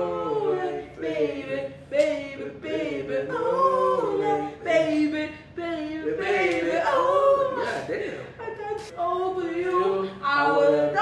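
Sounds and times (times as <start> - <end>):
voices singing a cappella: 0.0 - 11.0.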